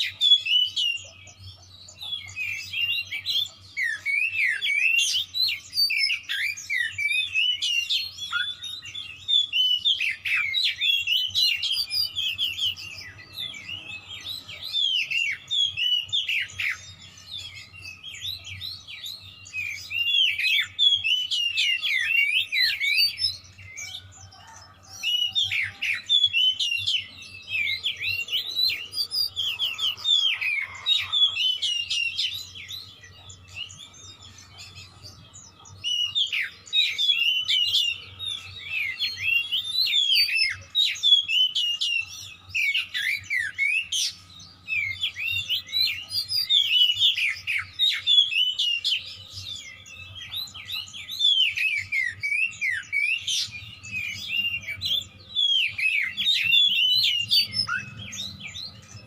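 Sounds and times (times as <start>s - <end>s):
bird singing whistles and chirps: 0.0s - 59.0s.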